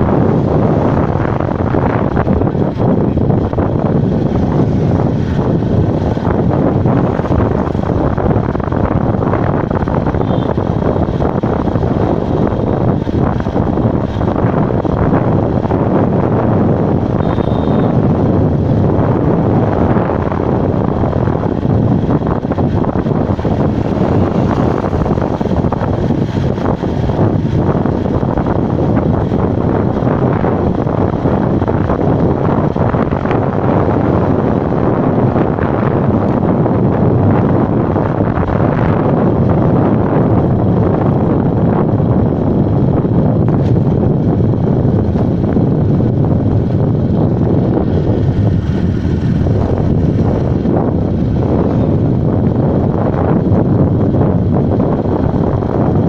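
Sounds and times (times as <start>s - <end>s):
vehicle engine and tyre noise: 0.0s - 56.0s
wind over microphone: 0.0s - 56.0s.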